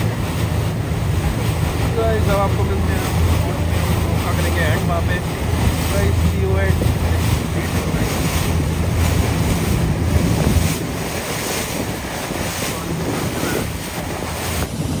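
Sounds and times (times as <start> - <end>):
boat engine drone: 0.0 - 15.0
water spray splashing off hull: 0.0 - 15.0
wind buffeting microphone: 0.0 - 15.0.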